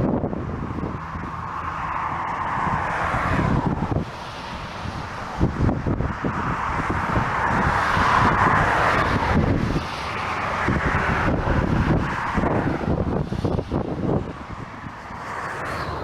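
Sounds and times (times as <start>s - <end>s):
steady rushing noise: 0.0s - 16.0s
wind buffeting microphone: 0.0s - 16.0s.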